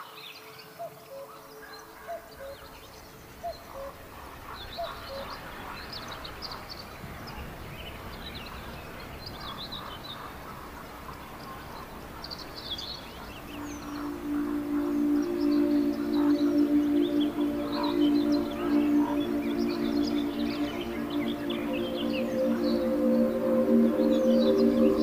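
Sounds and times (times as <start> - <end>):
birds chirping: 0.0 - 25.0
steady outdoor hiss: 0.0 - 25.0.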